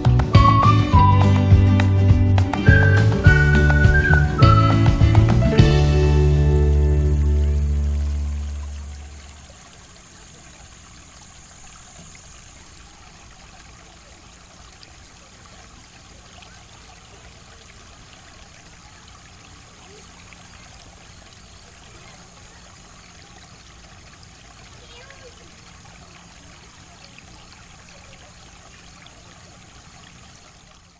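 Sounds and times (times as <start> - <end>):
running water: 0.0 - 30.9.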